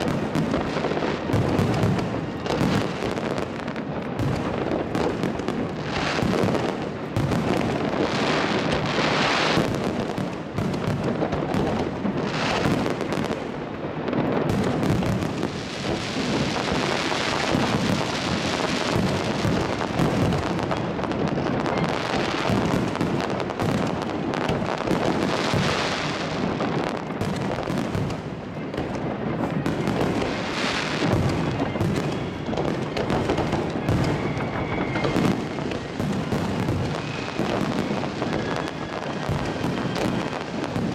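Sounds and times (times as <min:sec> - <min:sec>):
fireworks launching and bursting: 0:00.0 - 0:40.9.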